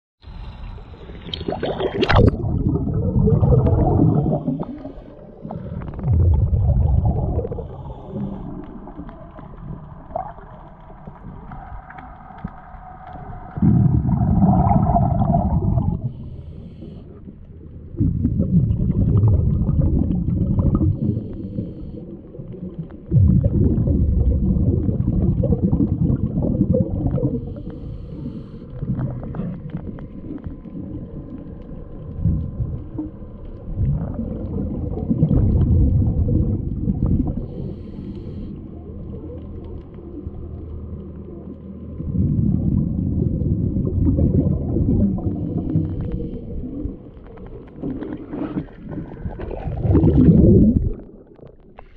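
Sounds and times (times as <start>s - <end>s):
underwater rumbling and gurgling: 0.2s - 51.9s.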